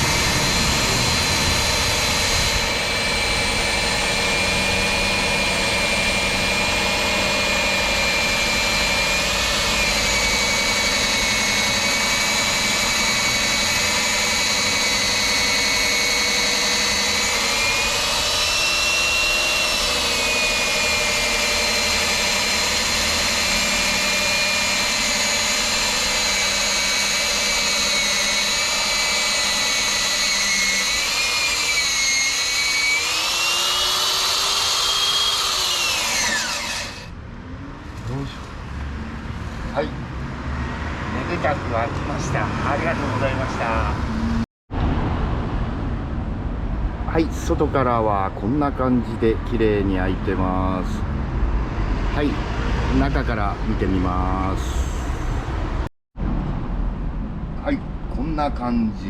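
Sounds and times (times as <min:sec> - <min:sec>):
core drill boring through concrete: 0:00.0 - 0:37.2, 0:41.0 - 0:44.5, 0:47.4 - 0:51.1, 0:51.9 - 0:55.9.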